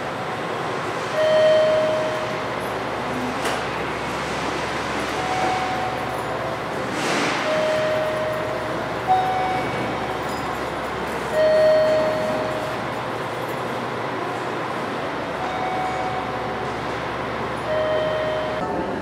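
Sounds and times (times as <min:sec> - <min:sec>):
train rumbling hiss: 0:00.0 - 0:19.0.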